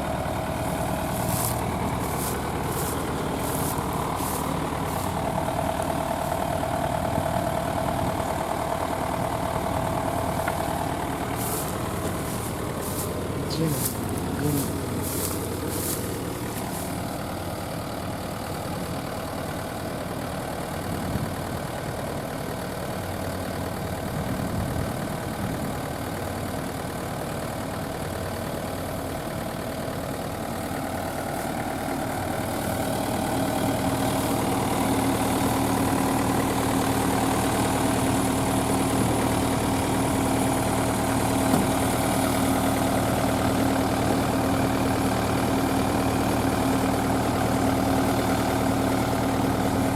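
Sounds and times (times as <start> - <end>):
harvester diesel engine running: 0.0 - 49.9.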